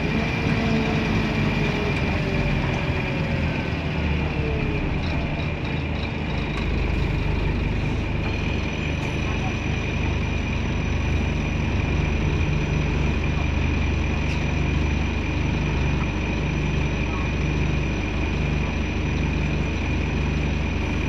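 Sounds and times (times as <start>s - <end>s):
diesel bus engine idling: 0.0s - 21.0s.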